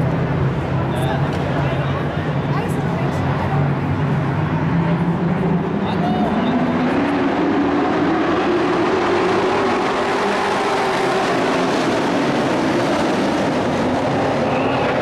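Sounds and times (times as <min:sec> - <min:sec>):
race truck engines droning: 0:00.0 - 0:15.0.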